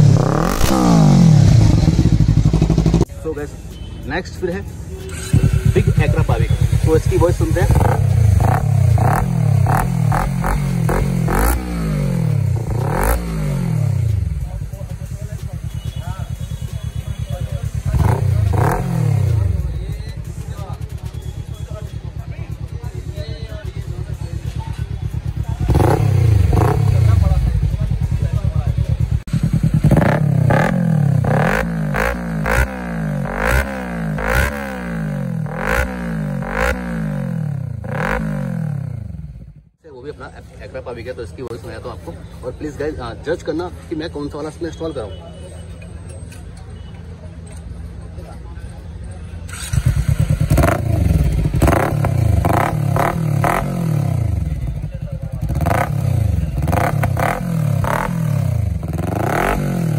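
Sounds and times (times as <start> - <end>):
motorcycle engine revving: 0.0 - 3.2, 5.0 - 39.8, 49.5 - 59.9.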